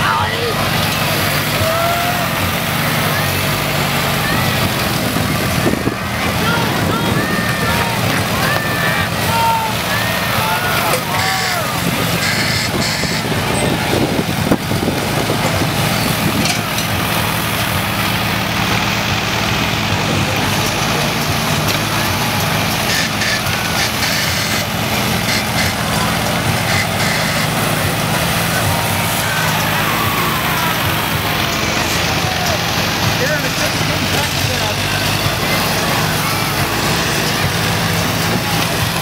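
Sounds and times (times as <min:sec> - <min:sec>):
machine engine running: 0:00.0 - 0:39.0.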